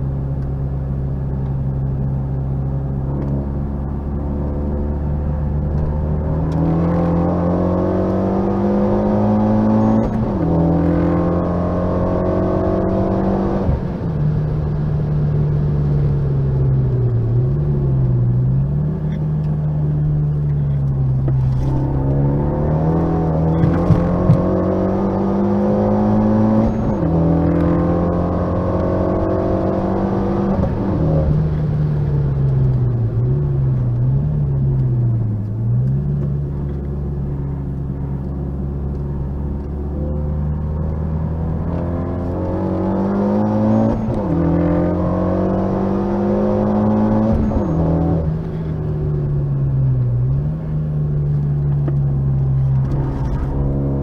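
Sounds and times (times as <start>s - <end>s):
car engine accelerating and upshifting: 0.0s - 54.0s.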